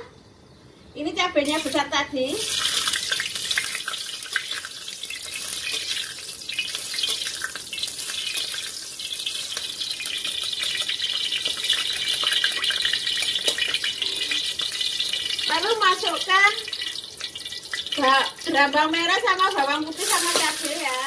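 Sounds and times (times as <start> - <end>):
food sizzling in hot oil: 1.4 - 21.0.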